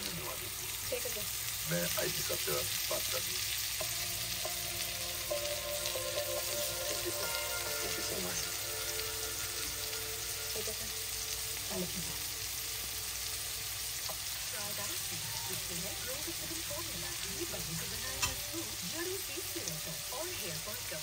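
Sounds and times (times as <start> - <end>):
fish sizzling in frying pan: 0.0 - 21.0.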